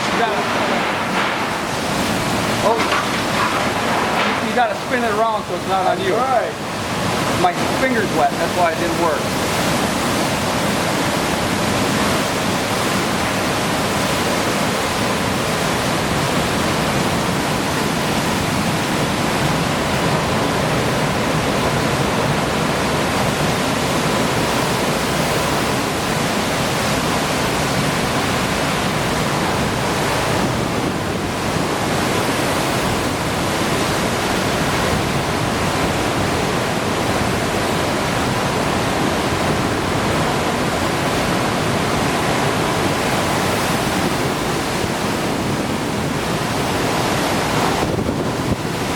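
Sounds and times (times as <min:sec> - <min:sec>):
hurricane wind and driving rain: 0:00.0 - 0:48.9.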